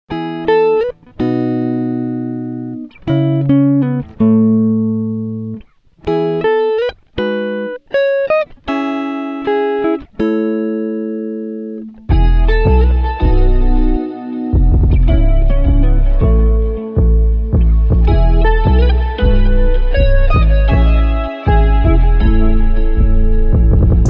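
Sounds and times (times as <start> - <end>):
plucked guitar music: 0.1 - 24.0.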